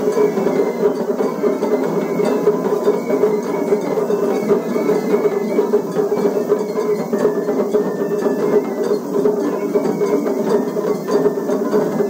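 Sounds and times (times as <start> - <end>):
flute: 0.0 - 12.0
taiko drums fast rhythm: 0.0 - 12.0.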